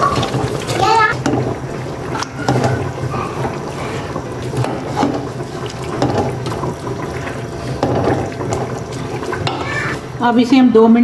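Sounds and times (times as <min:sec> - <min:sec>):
wet stirring in a pot: 0:00.0 - 0:10.8.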